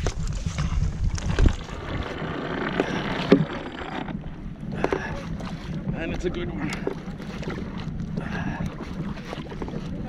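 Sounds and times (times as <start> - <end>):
water lapping at kayak hull: 0.0 - 10.0
wind buffeting microphone: 0.0 - 10.0.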